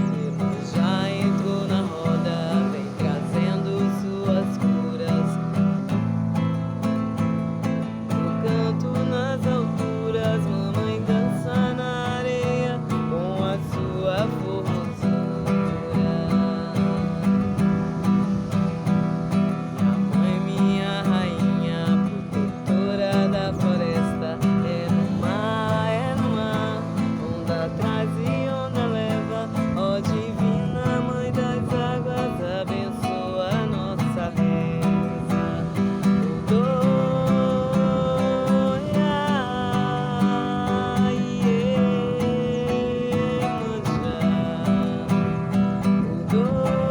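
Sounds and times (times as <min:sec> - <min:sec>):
strummed acoustic guitar: 0:00.0 - 0:46.9.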